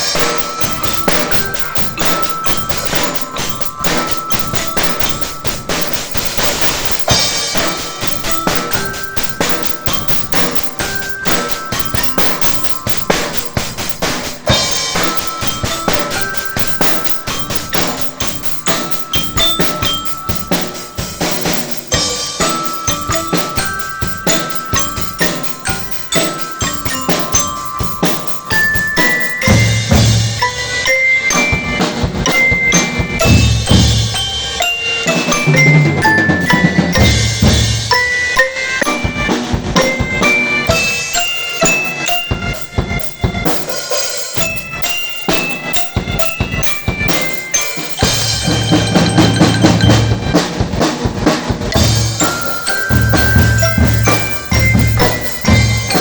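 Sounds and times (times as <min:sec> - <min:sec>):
fast snare drumming: 0:00.0 - 0:30.5, 0:35.4 - 0:37.9, 0:39.0 - 0:56.0
heavy bass drum beats: 0:00.0 - 0:30.6, 0:39.2 - 0:56.0
bell melody: 0:00.0 - 0:56.0.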